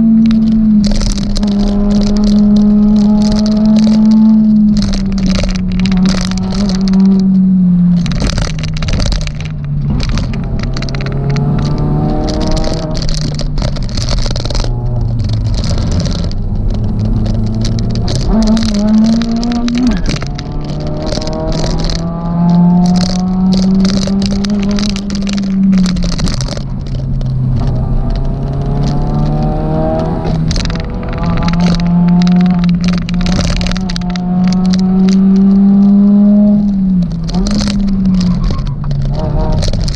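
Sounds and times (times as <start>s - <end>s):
car engine accelerating: 0.0s - 39.9s
rattles and clatters: 0.0s - 39.9s.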